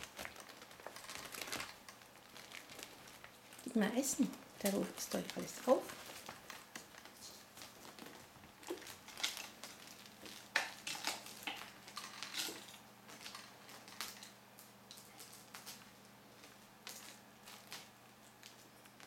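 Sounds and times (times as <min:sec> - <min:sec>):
kittens pattering on wooden floor: 0:00.0 - 0:19.0.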